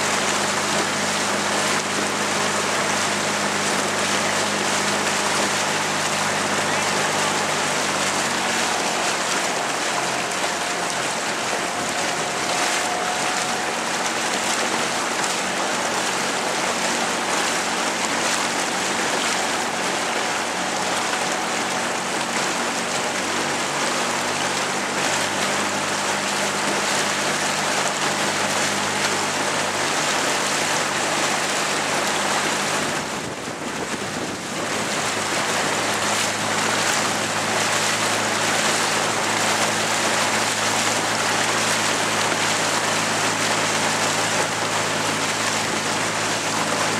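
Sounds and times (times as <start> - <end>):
water rushing past a boat: 0.0 - 46.9
wind: 0.0 - 46.9.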